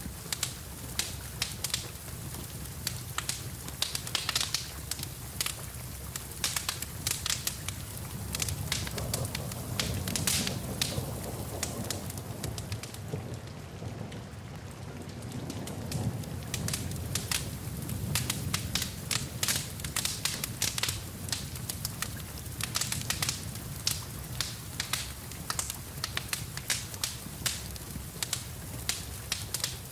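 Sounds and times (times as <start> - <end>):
rain falling: 0.0 - 29.9
wood fire crackling and popping: 0.0 - 29.9.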